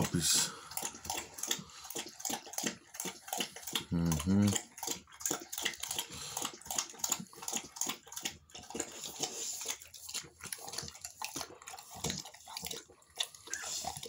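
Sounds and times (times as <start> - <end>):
puppies lapping at food bowl: 0.0 - 14.0.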